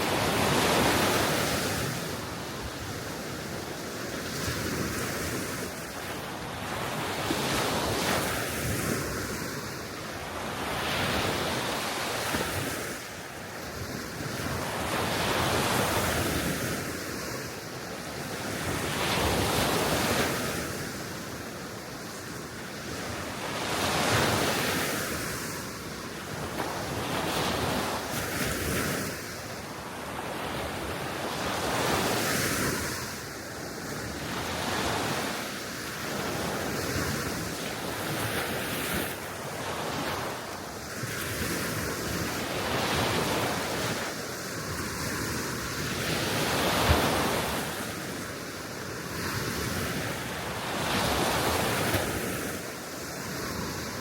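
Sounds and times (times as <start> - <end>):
small waves washing ashore: 0.0 - 54.0.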